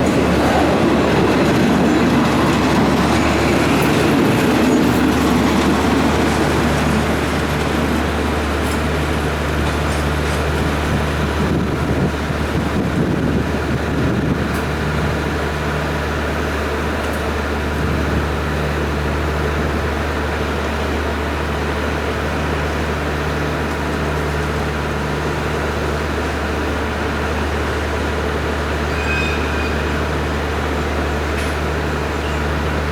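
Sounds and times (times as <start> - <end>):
diesel locomotive engine drone: 0.0 - 32.9.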